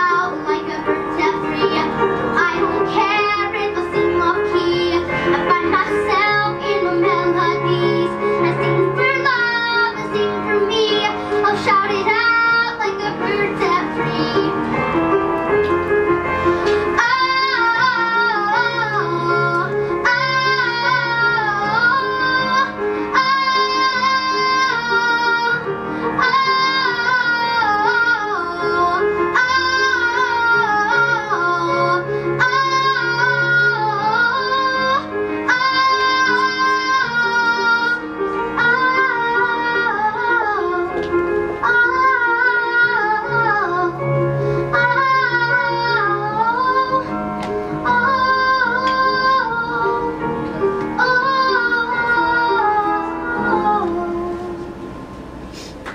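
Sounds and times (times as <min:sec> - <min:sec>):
girl singing pop ballad: 0:00.0 - 0:54.7
instrumental accompaniment: 0:00.0 - 0:55.9.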